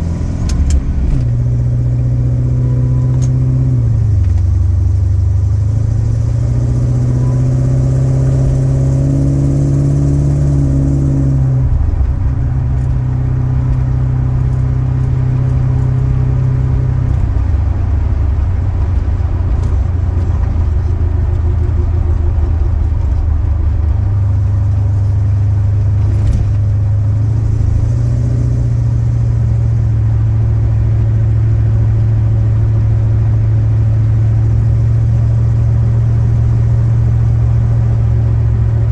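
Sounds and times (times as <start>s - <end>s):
car engine driving on freeway: 0.0s - 38.9s.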